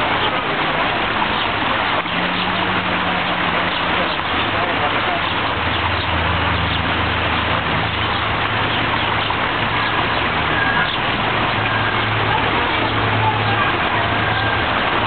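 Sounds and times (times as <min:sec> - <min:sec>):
waterfall rushing over rocks: 0:00.0 - 0:15.0.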